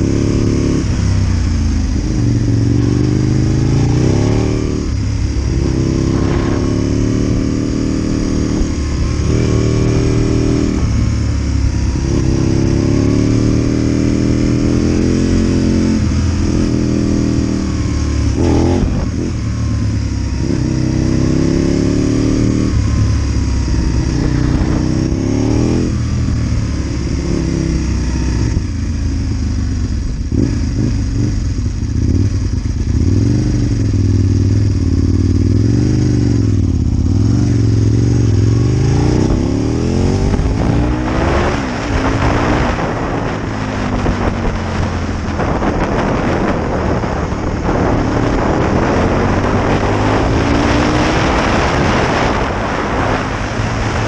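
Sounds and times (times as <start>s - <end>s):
motorcycle engine revving: 0.0s - 54.0s
wind noise on microphone: 0.0s - 54.0s.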